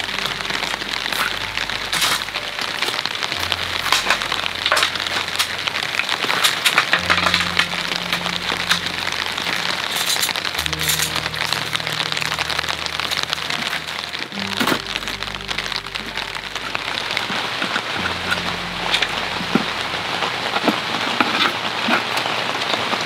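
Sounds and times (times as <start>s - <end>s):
rain pattering: 0.0s - 23.0s
soft music with low chords: 0.0s - 23.0s.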